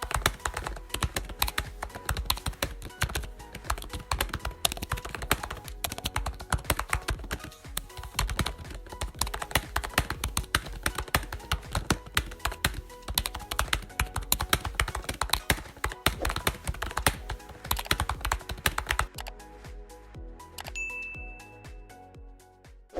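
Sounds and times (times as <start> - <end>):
computer keyboard typing: 0.0 - 19.4, 20.6 - 20.8.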